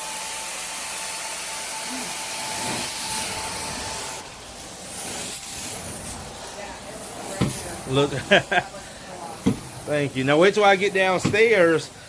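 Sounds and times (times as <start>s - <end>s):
carpet cleaner spraying hiss: 0.0s - 12.0s.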